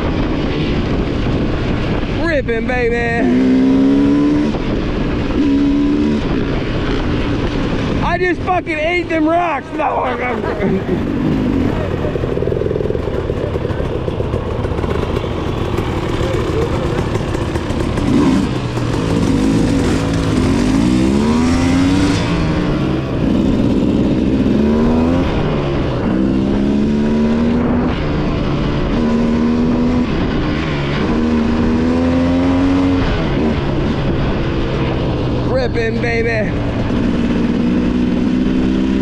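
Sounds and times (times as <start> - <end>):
dirt bike engine revving: 2.9 - 39.0.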